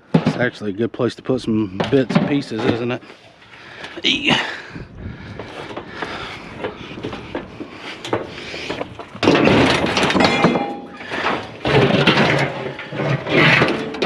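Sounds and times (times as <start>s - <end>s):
scrap metal clattering and scraping: 0.0s - 0.7s, 1.6s - 4.0s, 5.2s - 14.0s.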